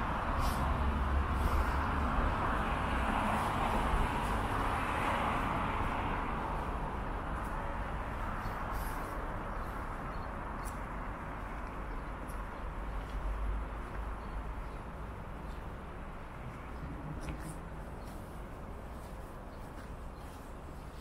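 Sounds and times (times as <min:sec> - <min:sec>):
vehicle passing: 0:00.0 - 0:19.4
low city rumble: 0:00.0 - 0:21.0.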